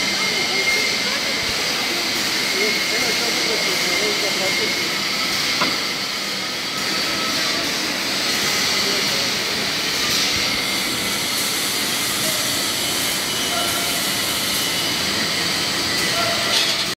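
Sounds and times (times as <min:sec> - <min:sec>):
machine rollers whirring: 0:00.0 - 0:17.0.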